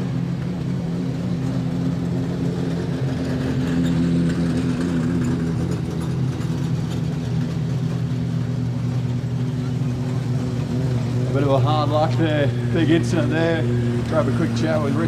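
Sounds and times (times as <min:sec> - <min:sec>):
car engines idling low: 0:00.0 - 0:15.0.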